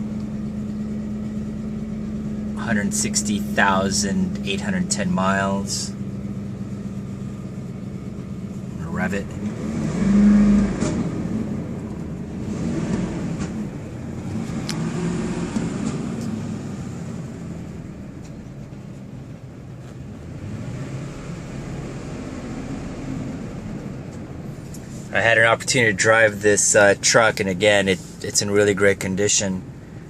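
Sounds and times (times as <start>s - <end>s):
engine revving: 0.0s - 18.3s, 20.0s - 28.9s.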